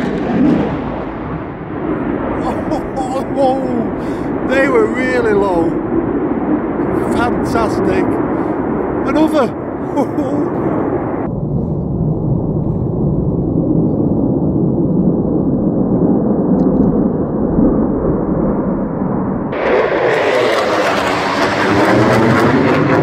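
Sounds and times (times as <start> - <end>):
fighter jet passing low: 0.0 - 23.0.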